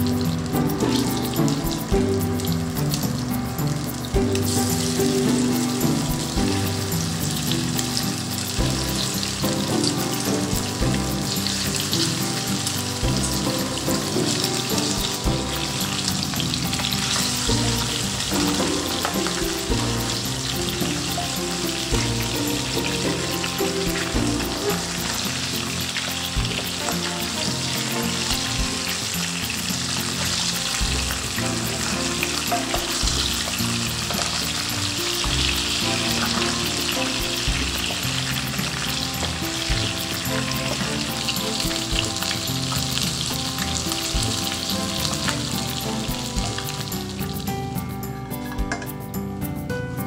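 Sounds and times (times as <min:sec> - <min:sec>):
fish sizzling in hot oil: 0:00.0 - 0:47.6
soft background music: 0:00.0 - 0:50.0.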